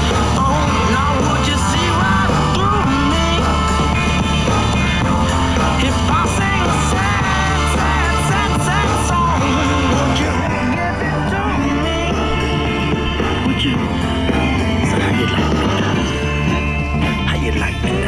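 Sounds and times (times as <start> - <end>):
rock music with singing: 0.0 - 18.0.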